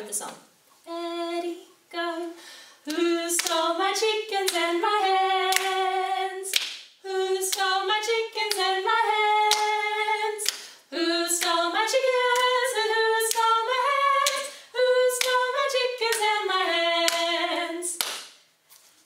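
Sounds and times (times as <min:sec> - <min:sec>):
women singing: 0:00.8 - 0:18.1.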